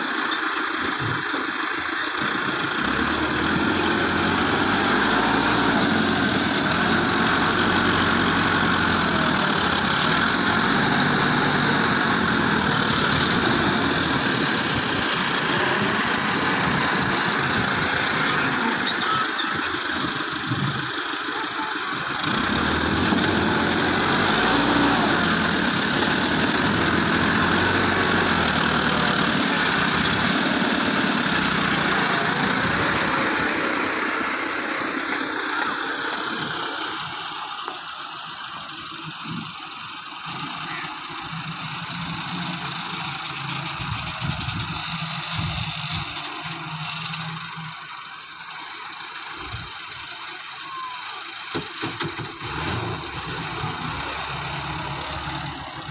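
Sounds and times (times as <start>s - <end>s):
diesel engine of heavy machinery: 0.0s - 55.9s.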